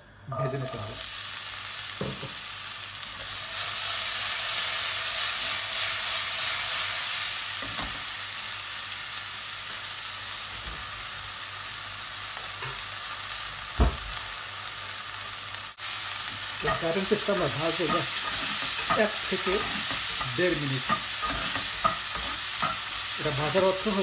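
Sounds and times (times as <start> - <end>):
peas sizzling in hot oil: 0.1 - 24.0.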